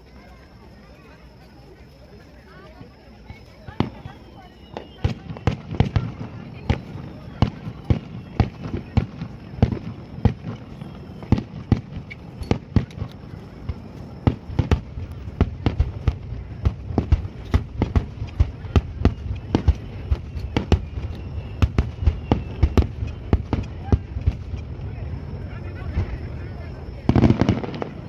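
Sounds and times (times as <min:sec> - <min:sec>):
fireworks bangs: 0:02.8 - 0:28.0.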